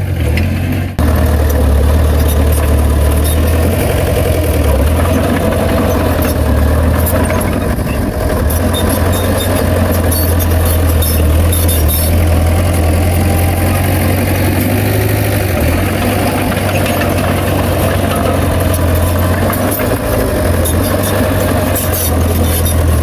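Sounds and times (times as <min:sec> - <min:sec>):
heavy diesel engine droning: 0:00.0 - 0:23.0.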